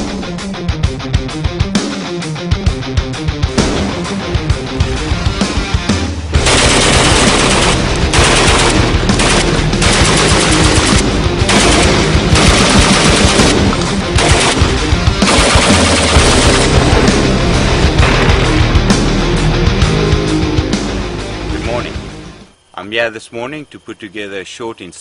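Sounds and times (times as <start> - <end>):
heavy metal music: 0.0 - 24.3.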